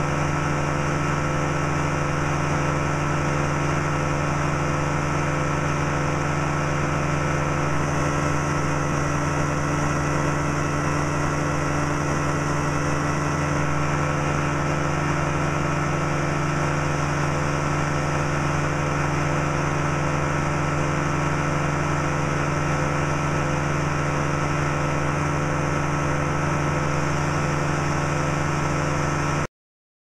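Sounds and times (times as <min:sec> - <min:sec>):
engine and propeller running: 0:00.0 - 0:29.5.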